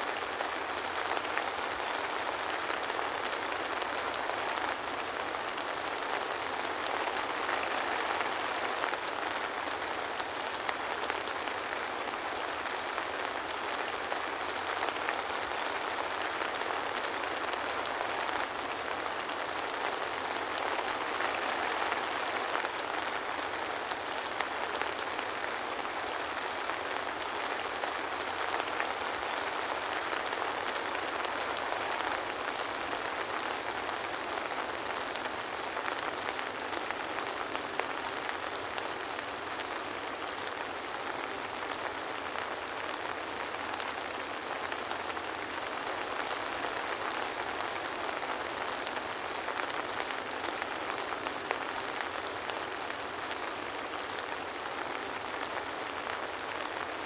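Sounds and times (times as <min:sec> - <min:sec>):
soft rain hiss: 0:00.0 - 0:57.0.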